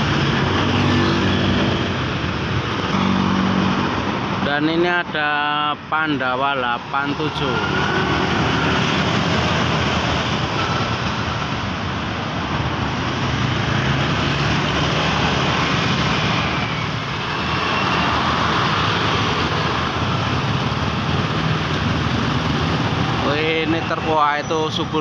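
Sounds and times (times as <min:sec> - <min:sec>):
dense road traffic passing: 0:00.0 - 0:25.0.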